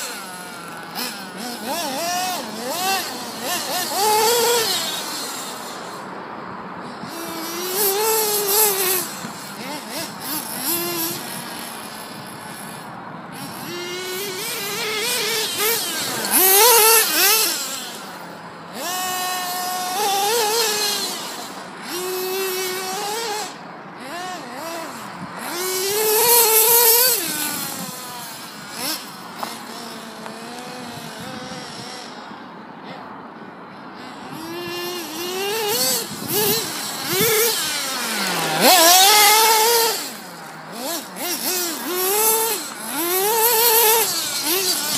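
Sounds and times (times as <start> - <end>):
model car engine revving: 0.0 - 6.2, 6.8 - 32.4, 34.0 - 44.9.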